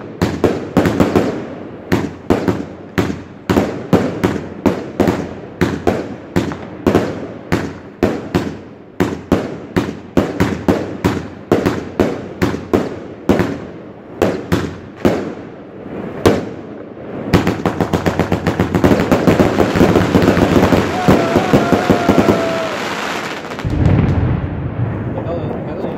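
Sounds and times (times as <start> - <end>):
fireworks bangs: 0.0 - 25.9.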